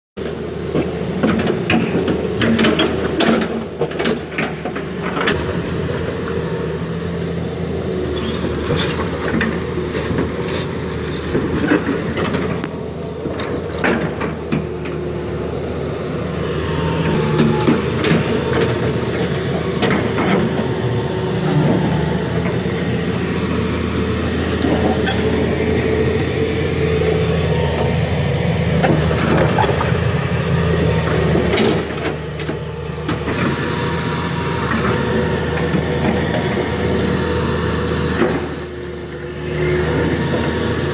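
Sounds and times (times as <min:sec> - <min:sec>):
excavator diesel engine running: 0:00.2 - 0:40.9.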